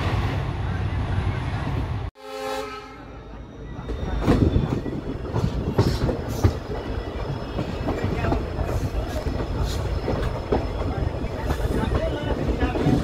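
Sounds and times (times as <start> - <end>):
steady train rumble: 0.0 - 13.0.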